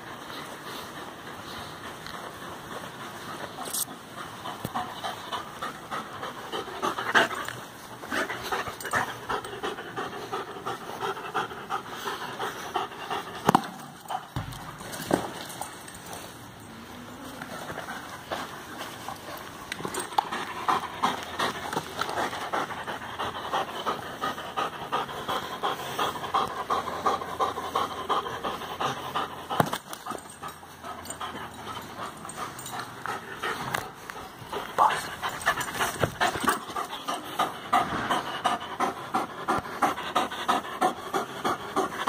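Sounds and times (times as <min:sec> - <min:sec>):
dog panting: 0:00.0 - 0:42.0.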